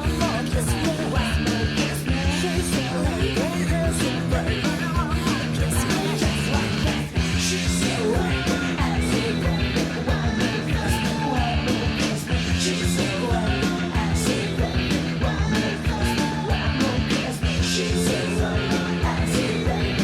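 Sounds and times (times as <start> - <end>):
person singing: 0.0 - 20.0
rock band playing: 0.0 - 20.0.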